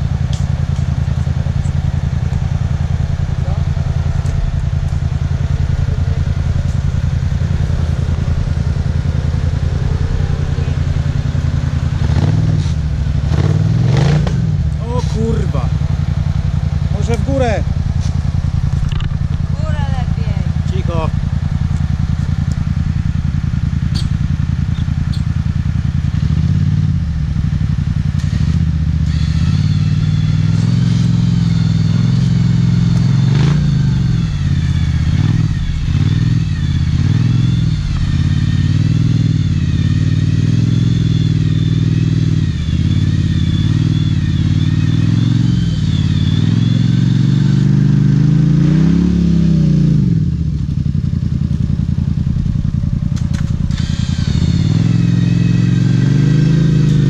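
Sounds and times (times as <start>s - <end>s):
high wavering whine: 0.0s - 57.0s
quad engine revving: 0.0s - 57.0s.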